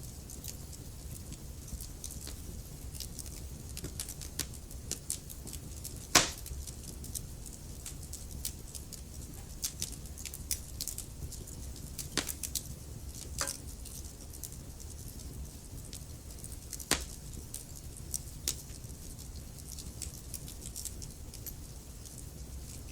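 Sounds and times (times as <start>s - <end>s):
low steady rumble: 0.0s - 22.9s
wood fire crackling: 0.0s - 22.9s.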